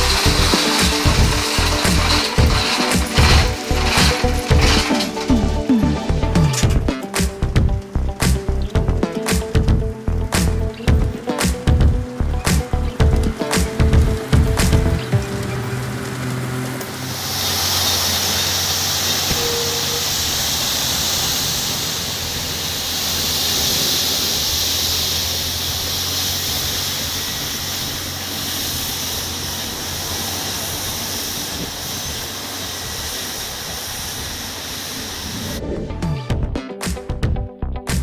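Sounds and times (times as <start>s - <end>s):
loud steady hiss: 0.0s - 35.6s
truck engine low hum: 0.0s - 38.0s.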